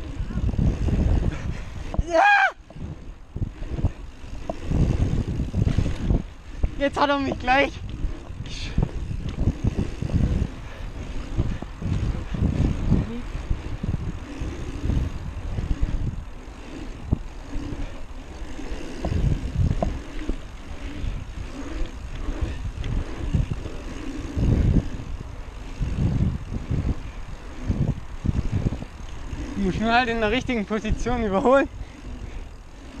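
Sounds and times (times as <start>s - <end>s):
bike clicks: 0.0s - 33.0s
bike tyres on asphalt: 0.0s - 33.0s
wind buffeting microphone: 0.0s - 33.0s.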